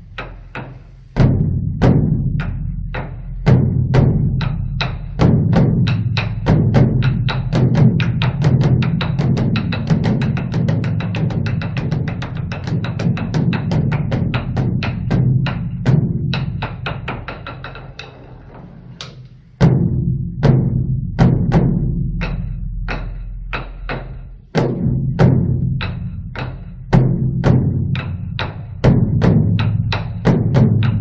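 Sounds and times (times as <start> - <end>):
large drum beaten with sticks: 0.0 - 31.0.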